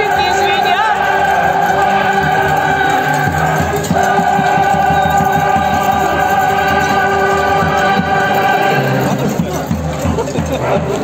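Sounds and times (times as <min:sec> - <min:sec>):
choir singing long notes: 0:00.0 - 0:09.7.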